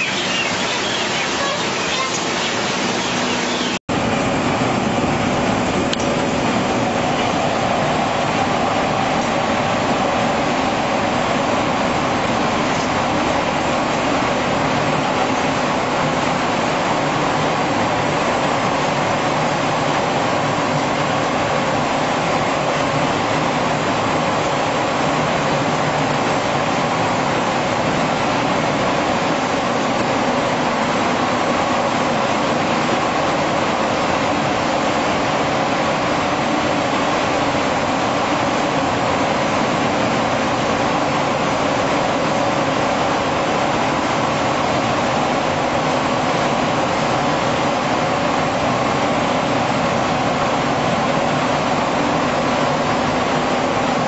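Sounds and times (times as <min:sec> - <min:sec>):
machinery hum and rumble: 0:00.0 - 0:54.0.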